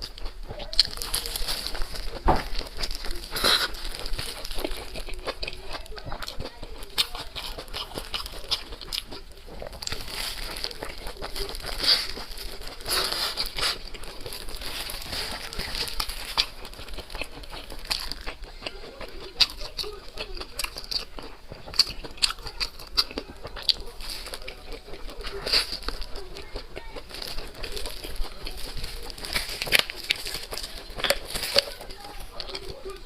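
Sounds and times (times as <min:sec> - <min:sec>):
chewing and crunching food: 0:00.0 - 0:33.0.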